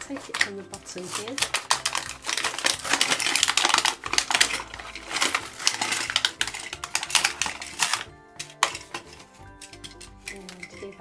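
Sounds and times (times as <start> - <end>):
plastic packaging crackling: 0.0 - 11.0
toy cars clicking together: 0.0 - 11.0.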